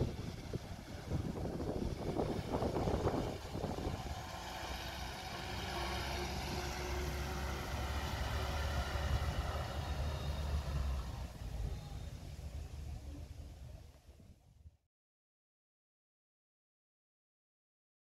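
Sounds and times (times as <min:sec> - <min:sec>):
faint steady tones: 0:00.0 - 0:14.7
vehicle engine rumbling: 0:00.0 - 0:14.8.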